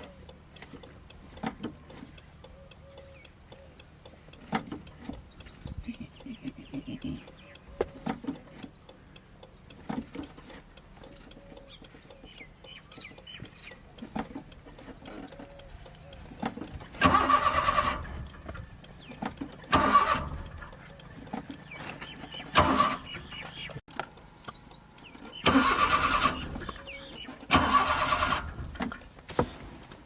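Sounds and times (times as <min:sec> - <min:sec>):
car starter motor cranking: 0:00.0 - 0:30.0.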